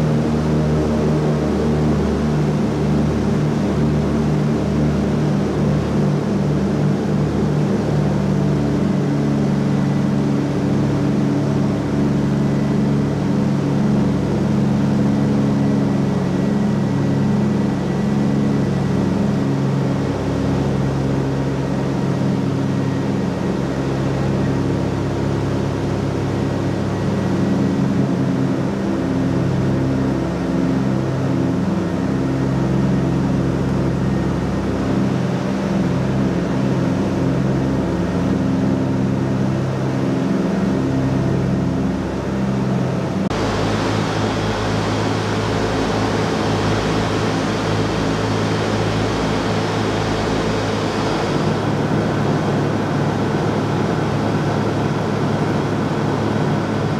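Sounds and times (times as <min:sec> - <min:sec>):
aircraft engines droning: 0:00.0 - 0:56.9.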